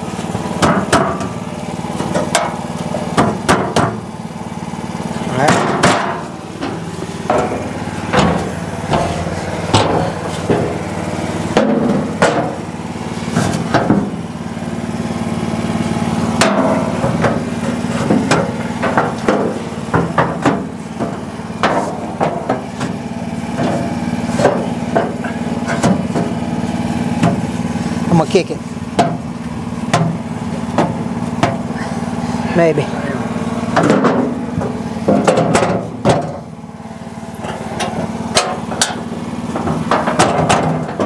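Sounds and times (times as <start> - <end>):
sharp metal knocks and clanks: 0.0 - 4.1, 5.0 - 14.3, 16.3 - 31.8, 33.7 - 36.5, 37.4 - 41.0
engine idling: 0.0 - 41.0.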